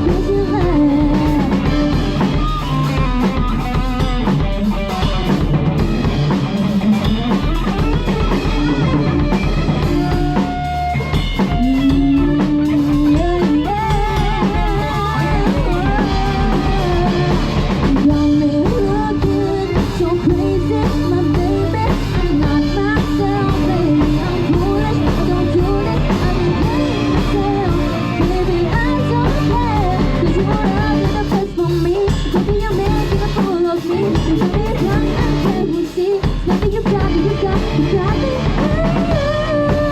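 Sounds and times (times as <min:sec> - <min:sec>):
bass guitar: 0:00.0 - 0:39.9
drum kit beat: 0:00.0 - 0:39.9
electric guitar: 0:00.0 - 0:39.9
lead singer singing: 0:00.0 - 0:39.9.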